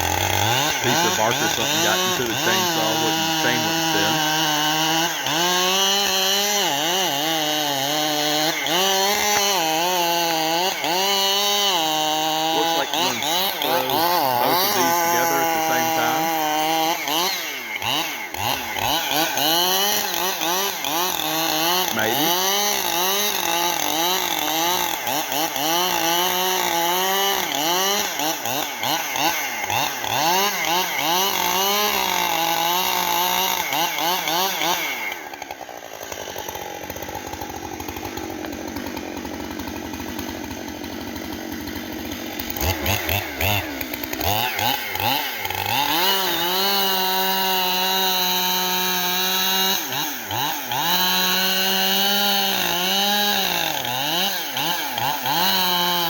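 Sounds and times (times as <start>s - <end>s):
chainsaw cutting into tree trunk: 0.0s - 56.0s.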